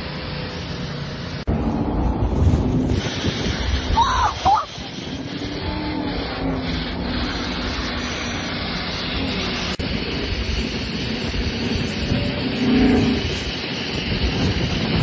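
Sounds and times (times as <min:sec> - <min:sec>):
car engine and exhaust running: 0:00.0 - 0:15.0.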